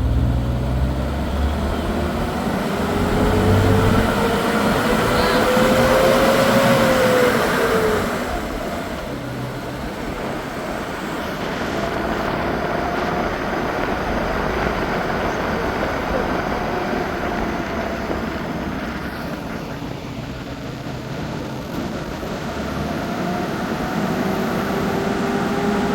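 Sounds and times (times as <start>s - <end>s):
road rumble: 0.0s - 25.9s
vehicle engine: 0.0s - 25.9s.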